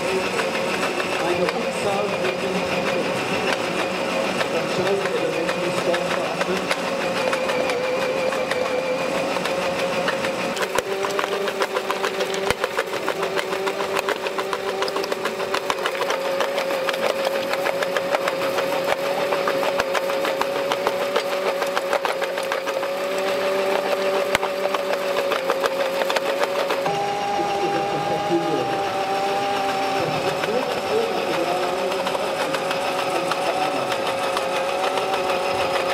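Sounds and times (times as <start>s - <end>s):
model crusher motor whine: 0.0s - 35.9s.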